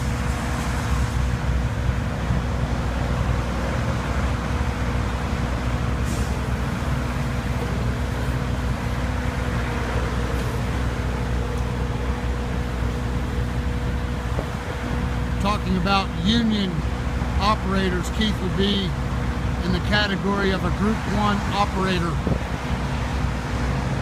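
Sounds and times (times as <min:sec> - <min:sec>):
mini excavator engine running: 0:00.0 - 0:20.7.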